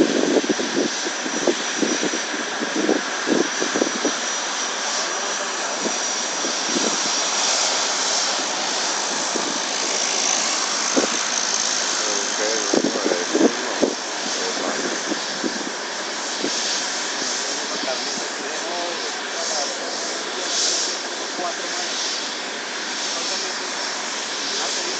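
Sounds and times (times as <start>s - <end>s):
aircraft turbine engines running: 0.0s - 24.9s.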